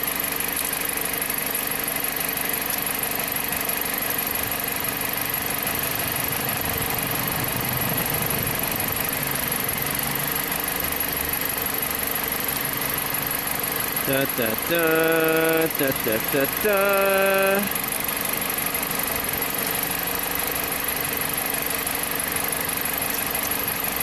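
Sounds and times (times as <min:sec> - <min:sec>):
car engine idling: 0:00.1 - 0:24.0.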